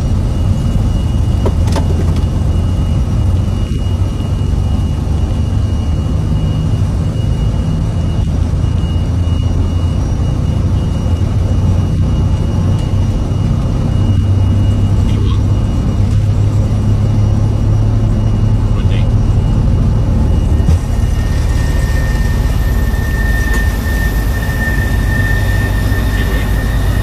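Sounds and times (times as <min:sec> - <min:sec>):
high whine: 0:00.0 - 0:27.0
jet engines rumbling: 0:00.0 - 0:27.0.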